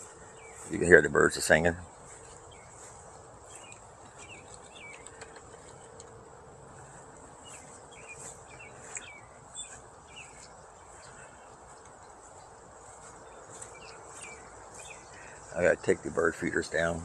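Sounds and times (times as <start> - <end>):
wild birds chirping and twittering: 0.0 - 17.0.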